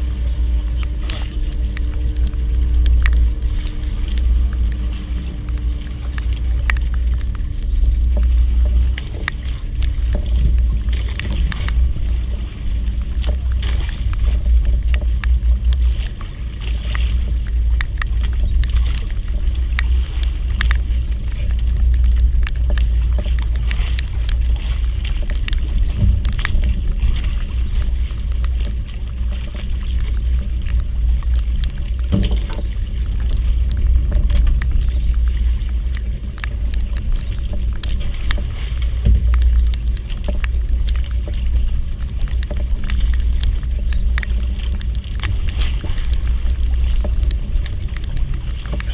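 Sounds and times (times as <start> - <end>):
boat motor rumbling: 0.0 - 48.9.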